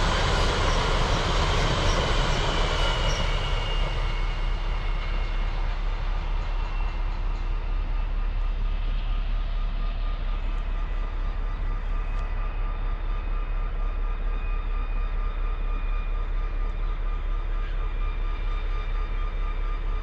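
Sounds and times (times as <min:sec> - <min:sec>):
high whine: 0:00.0 - 0:20.0
train low rumble: 0:00.0 - 0:20.0.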